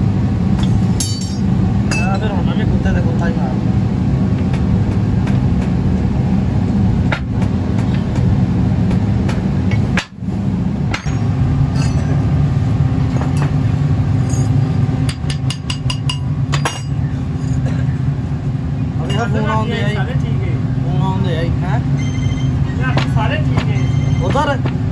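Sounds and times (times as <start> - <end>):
low machine drone: 0.0 - 24.9.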